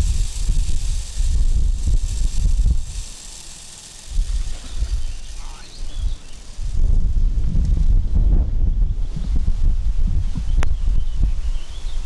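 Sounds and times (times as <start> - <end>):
wind buffeting microphone: 0.0 - 3.2, 4.0 - 12.0.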